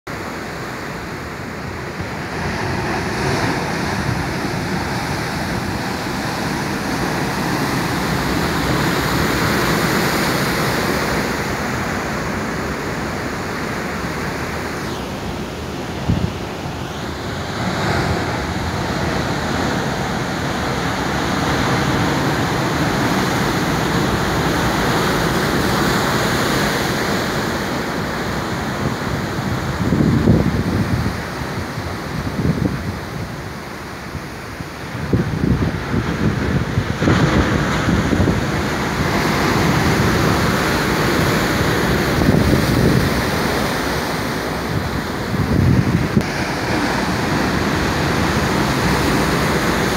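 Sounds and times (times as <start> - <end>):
ocean waves breaking on rocks: 0.1 - 49.9.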